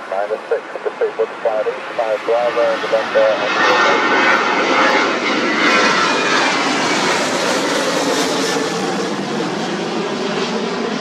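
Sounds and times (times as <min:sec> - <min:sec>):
jet airliner passing overhead: 0:00.0 - 0:11.0.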